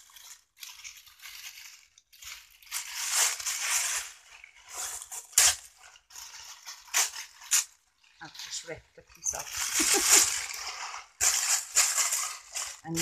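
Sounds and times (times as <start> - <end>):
sharp paper crackle: 0.0 - 13.0
tissue paper crinkling: 0.0 - 13.0.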